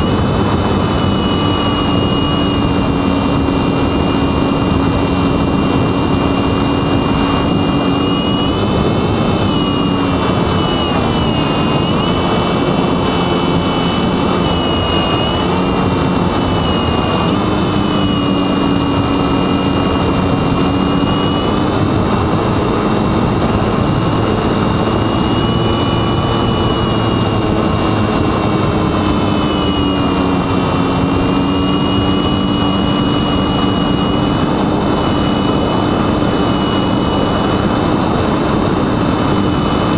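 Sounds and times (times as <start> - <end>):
electric motor and propeller whining: 0.0 - 39.9
wind noise: 0.0 - 39.9.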